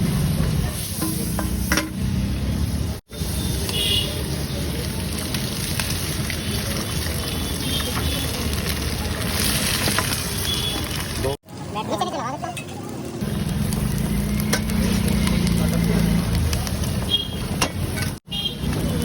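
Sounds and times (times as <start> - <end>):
egg sizzling on a griddle: 3.1 - 19.0.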